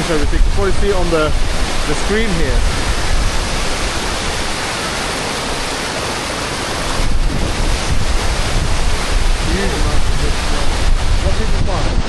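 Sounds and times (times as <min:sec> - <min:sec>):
waterfall rushing: 0:00.0 - 0:12.0
wind gusting on microphone: 0:00.0 - 0:12.0.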